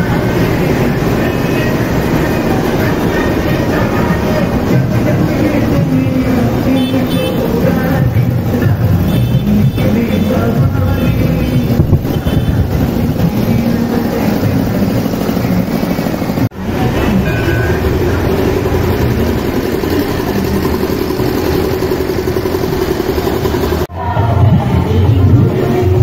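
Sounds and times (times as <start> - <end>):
truck engines: 0.0 - 26.0.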